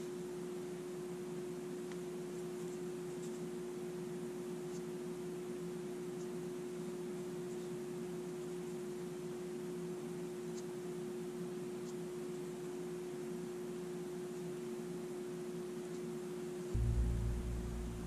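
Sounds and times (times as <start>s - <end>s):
constant hum tone: 0.0s - 18.0s.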